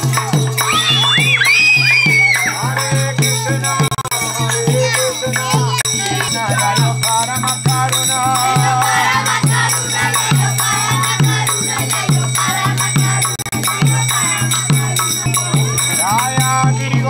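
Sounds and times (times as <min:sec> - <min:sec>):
drum beating: 0:00.0 - 0:17.0
group singing: 0:00.0 - 0:17.0
rattling percussion: 0:00.0 - 0:17.0.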